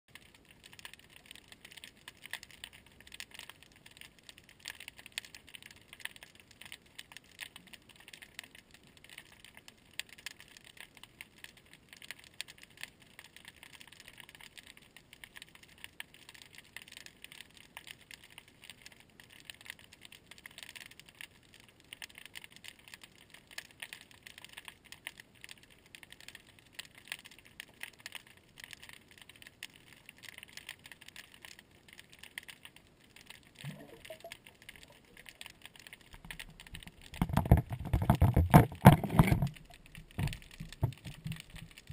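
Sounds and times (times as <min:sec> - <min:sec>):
underwater crackle of tiny clicks: 0:00.1 - 0:41.9.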